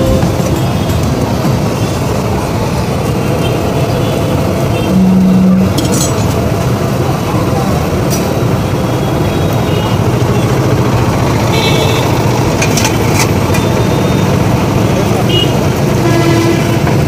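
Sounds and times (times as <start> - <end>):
roadside traffic: 0.0 - 17.0.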